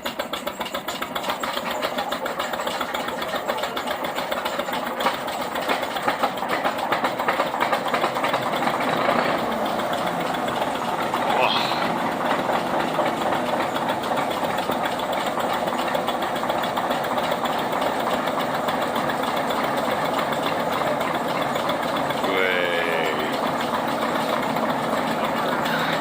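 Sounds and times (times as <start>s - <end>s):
diesel locomotive engine idling: 0.0s - 26.0s.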